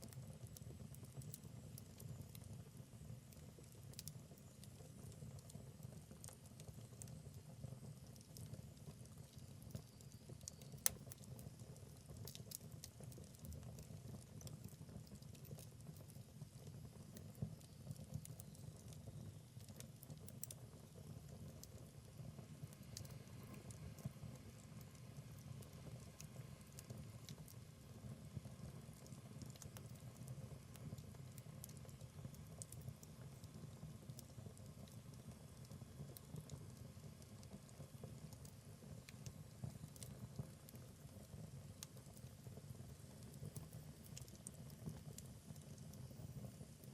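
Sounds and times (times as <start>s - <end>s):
fire pops and snaps: 0.0s - 46.9s
wood fire crackling: 0.0s - 46.9s.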